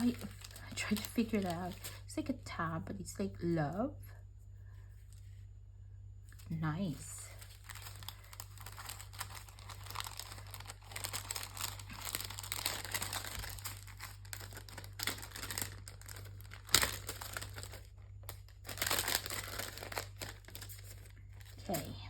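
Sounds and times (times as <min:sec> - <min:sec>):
packaging and papers crinkling: 0:00.0 - 0:02.4, 0:06.3 - 0:22.0
steady low hum: 0:00.0 - 0:22.0.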